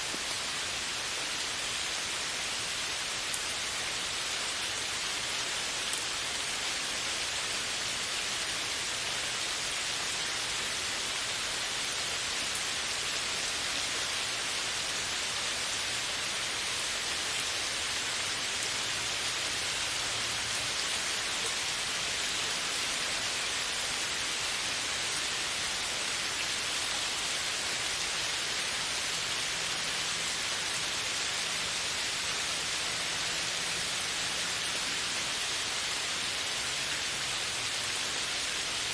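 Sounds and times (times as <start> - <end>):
heavy rain on foliage: 0.0 - 38.9.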